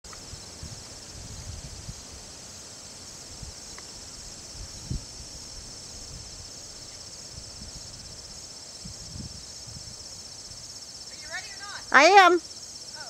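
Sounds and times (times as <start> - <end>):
insect chorus chirring: 0.1 - 13.0.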